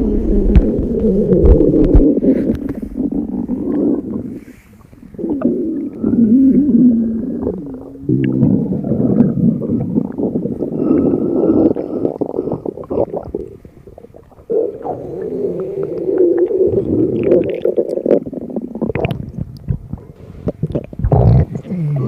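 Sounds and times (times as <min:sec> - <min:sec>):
stomach growling: 0:00.0 - 0:22.0.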